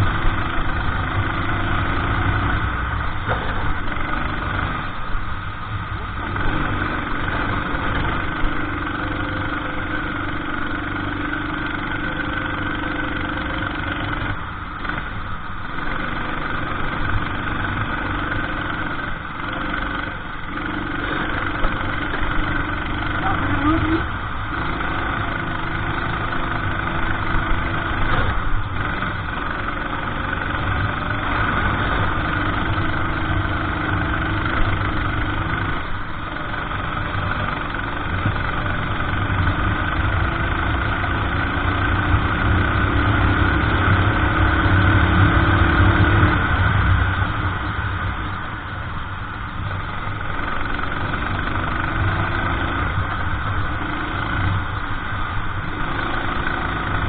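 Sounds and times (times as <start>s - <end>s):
racing kart engine accelerating: 6.1s - 57.0s.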